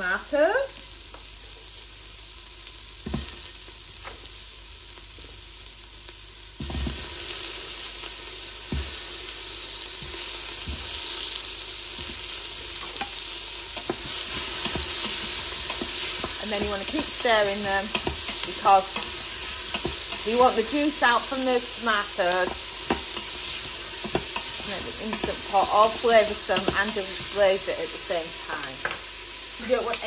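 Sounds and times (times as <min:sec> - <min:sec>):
onion sizzling in oil: 0:00.0 - 0:30.0.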